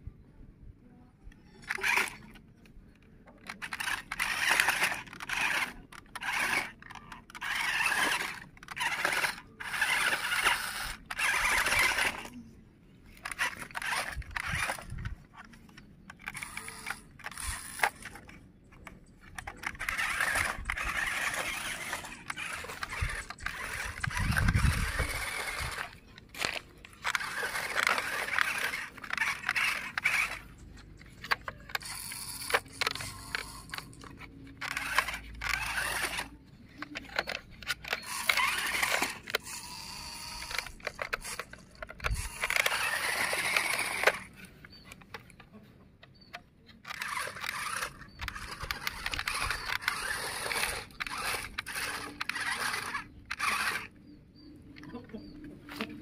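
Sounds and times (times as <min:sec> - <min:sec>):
small electric motor whirring: 0:01.4 - 0:02.7, 0:03.4 - 0:45.2, 0:46.2 - 0:55.0
tyres scraping over rocks: 0:03.5 - 0:12.4, 0:13.1 - 0:45.5, 0:46.6 - 0:53.9.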